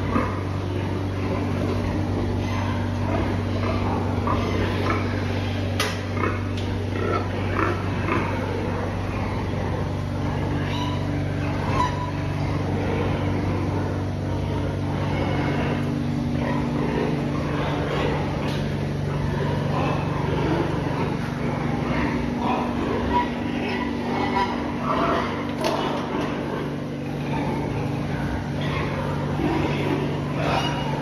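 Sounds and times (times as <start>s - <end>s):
low machine hum: 0.0s - 31.0s
pigs grunting: 0.0s - 31.0s.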